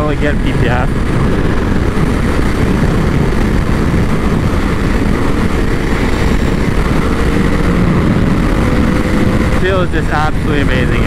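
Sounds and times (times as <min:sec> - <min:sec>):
motorcycle engine droning: 0:00.0 - 0:11.0
wind noise on microphone: 0:00.0 - 0:11.0.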